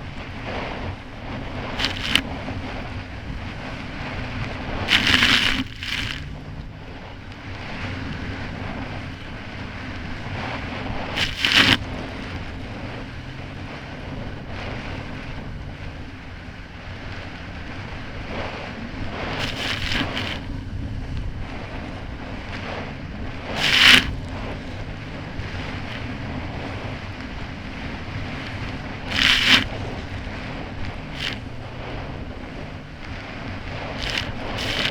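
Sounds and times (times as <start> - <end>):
spray splashing from hull: 0.0 - 20.7, 21.4 - 34.9
jet ski engine running: 0.0 - 34.9
wind noise on microphone: 0.0 - 34.9.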